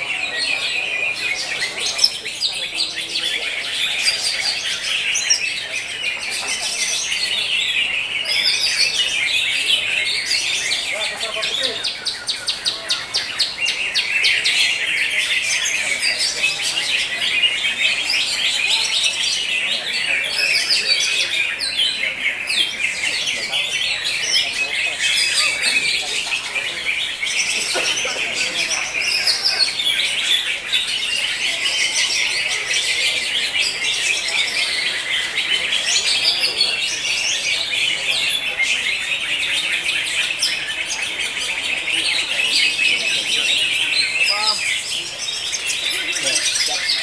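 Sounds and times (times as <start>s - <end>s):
many birds chirping and trilling: 0.0s - 47.0s.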